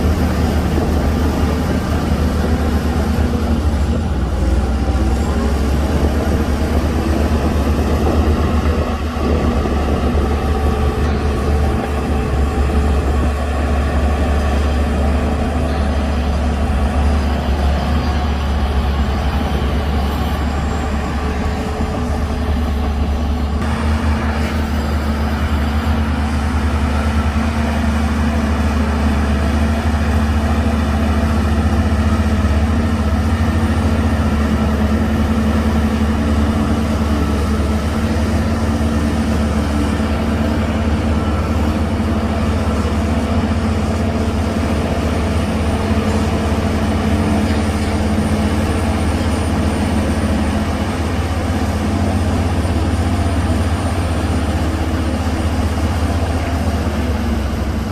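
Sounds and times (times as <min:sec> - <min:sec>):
diesel engine droning: 0:00.0 - 0:57.9.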